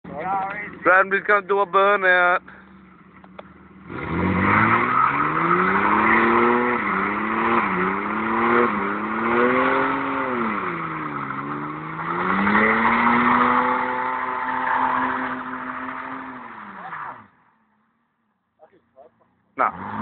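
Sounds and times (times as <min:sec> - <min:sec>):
car engine revving: 0:00.4 - 0:17.5, 0:19.6 - 0:20.0.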